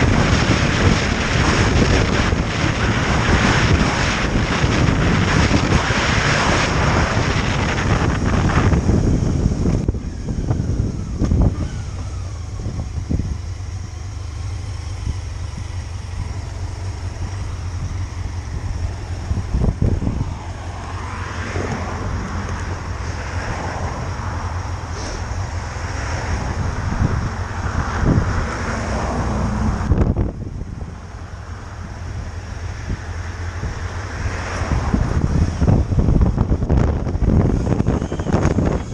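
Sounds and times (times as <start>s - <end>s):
loud rushing: 0.0s - 38.9s
motorcycle engine: 0.0s - 38.9s
wind rumble on microphone: 0.0s - 38.9s.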